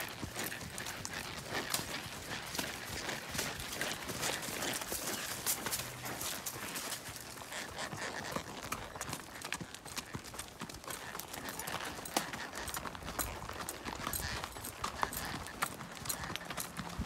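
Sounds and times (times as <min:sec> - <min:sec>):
horse hooves on dirt trail: 0:00.0 - 0:17.0.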